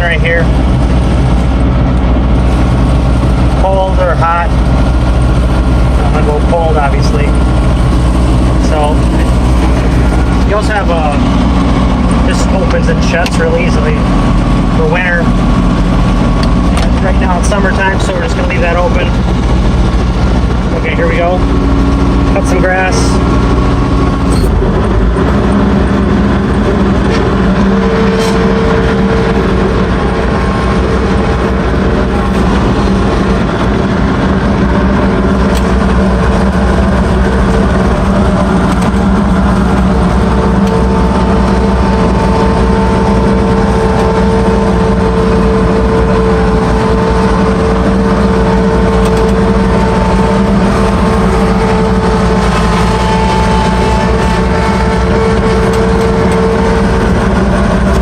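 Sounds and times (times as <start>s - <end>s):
diesel mower engine: 0.0s - 58.0s
higher whine: 0.0s - 58.0s
steady whine: 0.0s - 58.0s.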